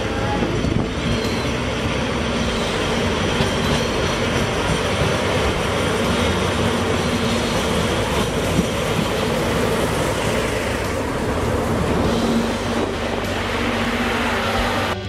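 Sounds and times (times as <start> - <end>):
diesel locomotive engine drone: 0.0 - 15.0
train wheels on rails: 0.0 - 15.0.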